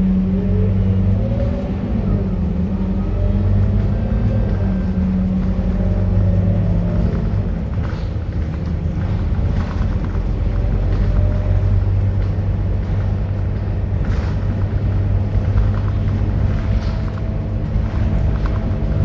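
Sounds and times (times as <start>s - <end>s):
bus diesel engine droning: 0.0s - 19.0s.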